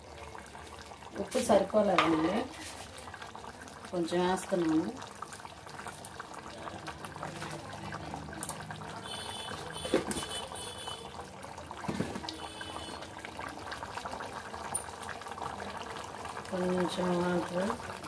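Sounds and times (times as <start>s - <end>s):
curry bubbling in a pot: 0.0s - 18.0s.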